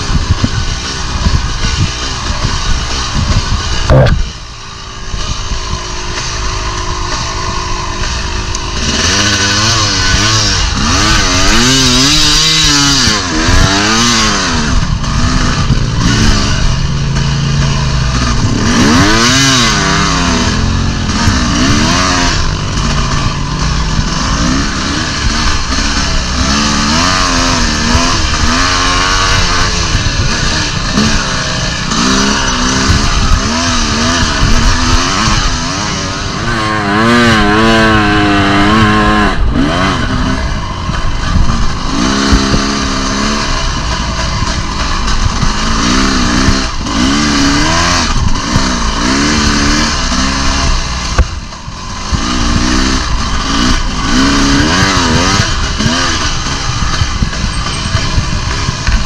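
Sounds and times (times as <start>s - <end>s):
dirt bike engine revving: 0.0s - 59.0s
steady rushing noise: 0.0s - 59.0s.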